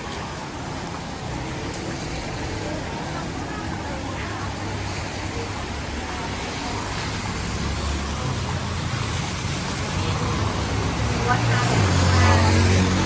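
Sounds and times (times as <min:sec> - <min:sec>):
traffic rumbling: 0:00.0 - 0:13.0.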